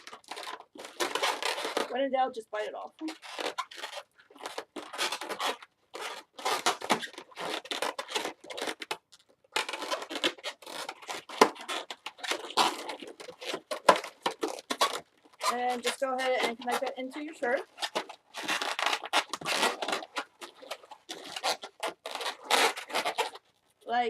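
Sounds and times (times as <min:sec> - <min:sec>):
balloons rubbing and twisting: 0:00.0 - 0:24.0.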